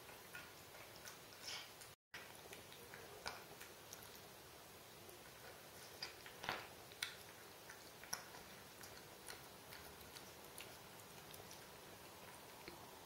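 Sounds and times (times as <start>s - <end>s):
cat chewing wet food: 0.0s - 13.0s.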